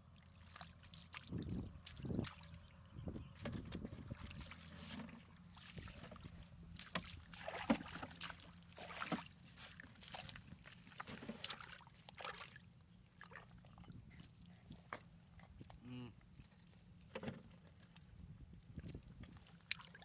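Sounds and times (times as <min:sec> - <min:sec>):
muddy water splashing: 0:00.0 - 0:20.0.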